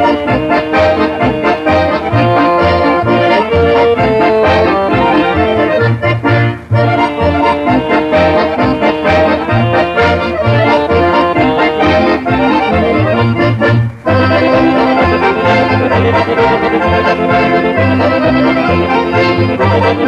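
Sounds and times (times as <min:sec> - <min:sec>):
accordion orchestra playing polka: 0:00.0 - 0:20.0
steady bass beat: 0:00.0 - 0:20.0.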